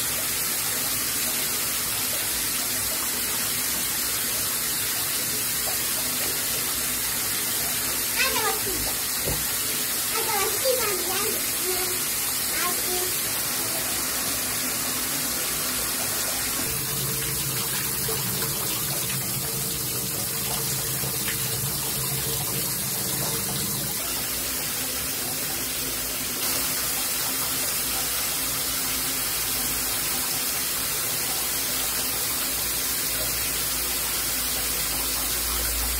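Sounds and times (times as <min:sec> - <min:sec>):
shower water spraying: 0:00.0 - 0:35.9.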